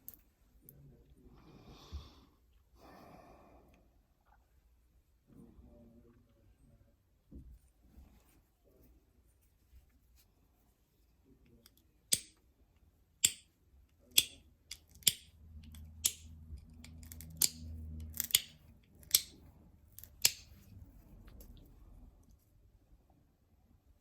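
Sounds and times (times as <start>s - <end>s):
faint low rumble: 0.2s - 11.6s, 15.3s - 24.0s.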